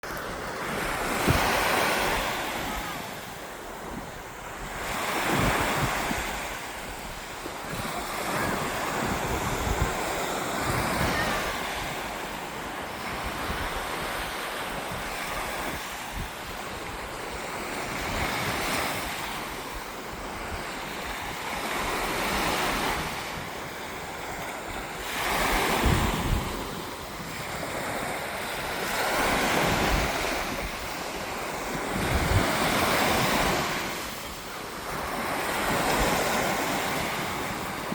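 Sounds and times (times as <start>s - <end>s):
sea waves breaking on shore: 0.0s - 37.9s
wind buffeting microphone: 0.0s - 37.9s.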